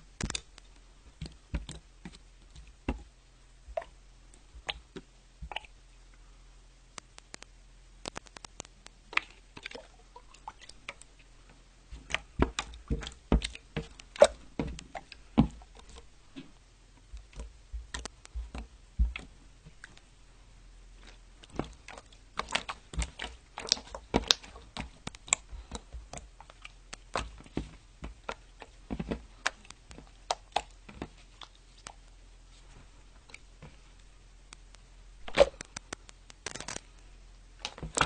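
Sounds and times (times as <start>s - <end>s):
slime squelching and clicking: 0.1s - 3.1s, 3.7s - 5.8s, 6.9s - 11.3s, 11.9s - 20.1s, 20.9s - 32.2s, 33.2s - 38.0s.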